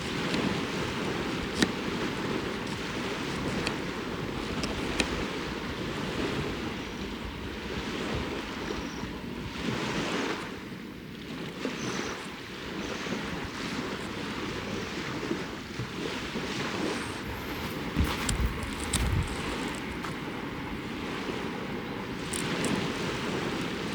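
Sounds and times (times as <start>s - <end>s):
small waves washing ashore: 0.0s - 23.9s
wind on microphone: 0.0s - 23.9s.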